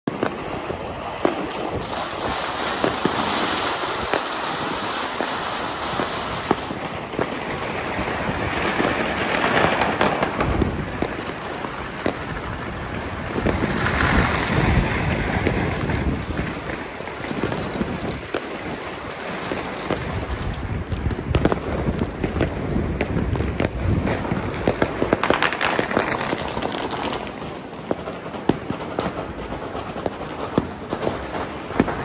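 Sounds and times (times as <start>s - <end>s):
crackle of fireworks: 0.0s - 32.0s.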